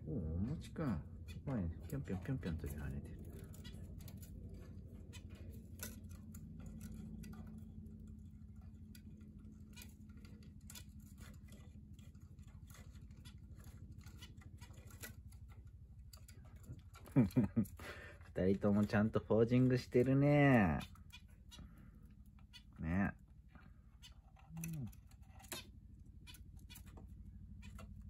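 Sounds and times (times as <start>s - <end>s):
low steady hum: 0.0s - 28.0s
birds hopping on wooden perches: 0.5s - 28.0s.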